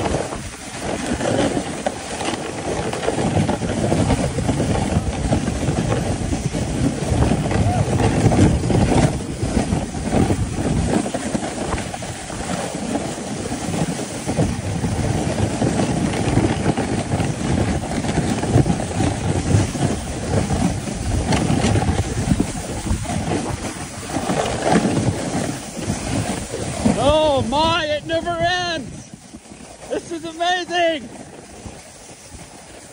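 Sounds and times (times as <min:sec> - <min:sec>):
sled scraping over snow: 0:00.0 - 0:32.9.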